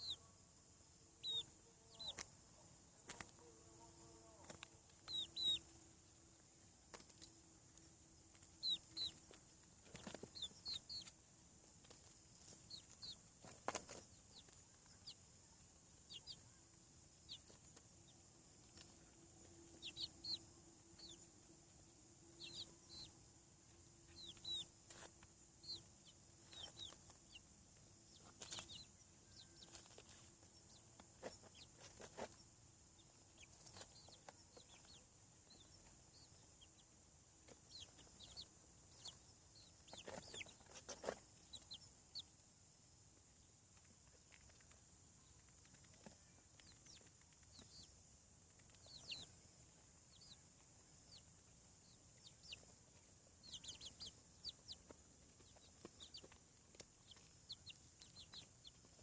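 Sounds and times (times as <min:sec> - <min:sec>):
chicks peeping: 0:00.0 - 0:00.3, 0:01.1 - 0:03.5, 0:04.3 - 0:59.0.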